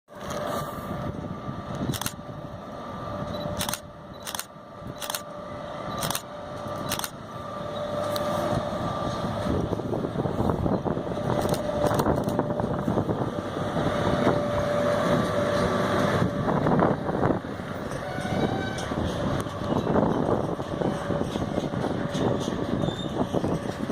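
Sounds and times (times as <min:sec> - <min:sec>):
electric locomotive whine: 0:00.1 - 0:23.9
sharp train clanks: 0:00.1 - 0:23.9
train rolling rumble and clatter: 0:00.1 - 0:23.9.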